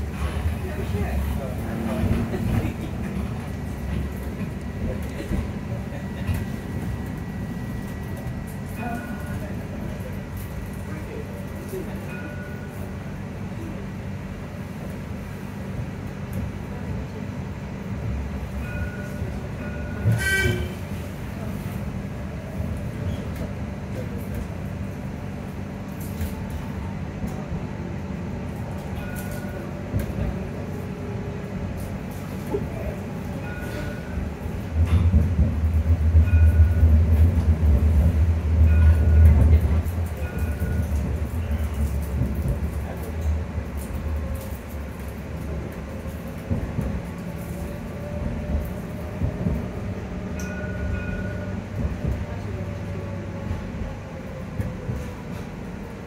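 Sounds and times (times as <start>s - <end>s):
tram motor hum and rumble: 0.0s - 56.0s.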